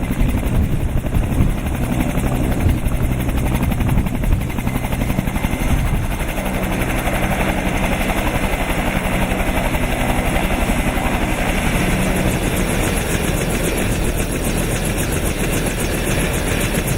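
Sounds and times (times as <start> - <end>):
helicopter turbine hum: 0.0 - 16.9.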